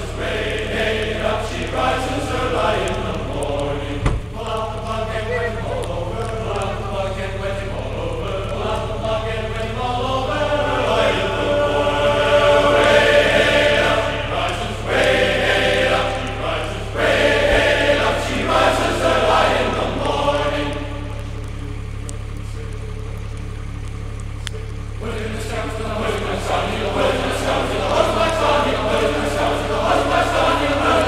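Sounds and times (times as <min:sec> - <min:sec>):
choir singing: 0:00.0 - 0:21.9, 0:24.9 - 0:31.0
steady low hum: 0:00.0 - 0:31.0.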